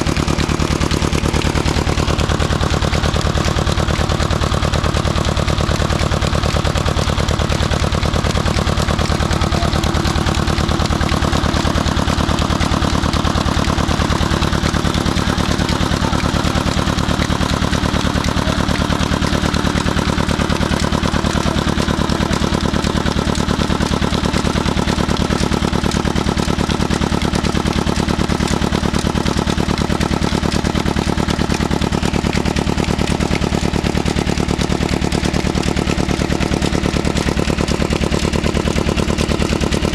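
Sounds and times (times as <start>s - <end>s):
diesel engine running with knocking: 0.0s - 39.9s.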